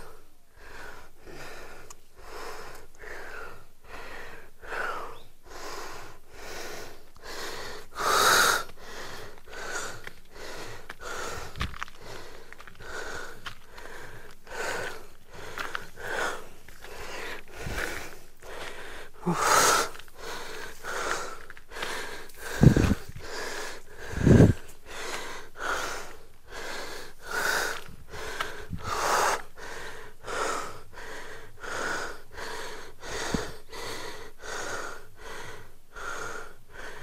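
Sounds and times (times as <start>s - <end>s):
man panting: 0.0s - 37.0s.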